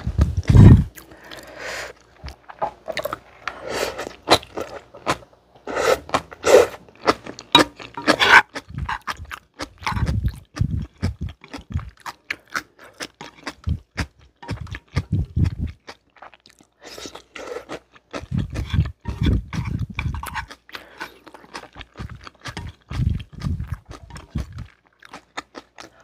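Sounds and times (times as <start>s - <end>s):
chewing and slurping noodles: 0.4s - 26.0s.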